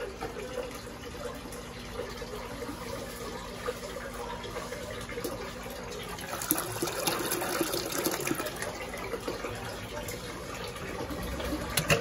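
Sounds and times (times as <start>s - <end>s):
water sloshing in washing machine: 0.0s - 12.0s.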